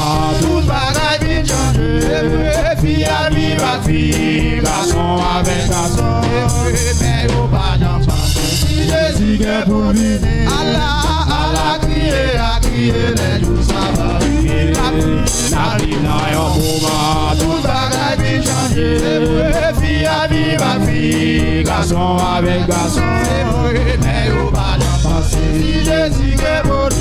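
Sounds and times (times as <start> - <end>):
drum kit with cymbals: 0.0 - 27.0
men's vocal group singing: 0.0 - 27.0.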